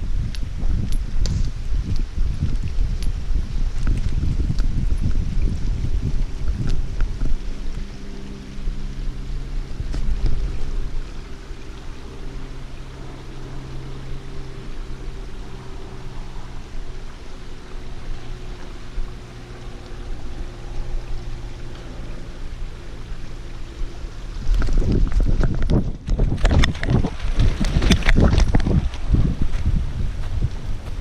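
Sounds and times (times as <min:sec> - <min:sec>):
low engine-like drone: 0:00.0 - 0:31.0.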